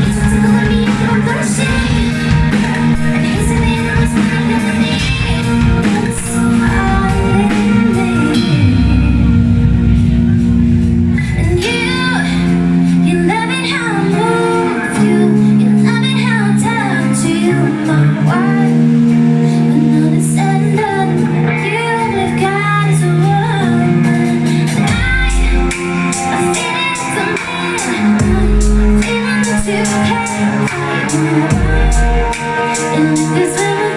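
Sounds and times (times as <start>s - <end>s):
person singing: 0.0s - 10.2s, 11.2s - 33.9s
drums and cymbals: 0.0s - 21.2s, 23.2s - 33.9s
guitar and bass: 0.0s - 33.9s.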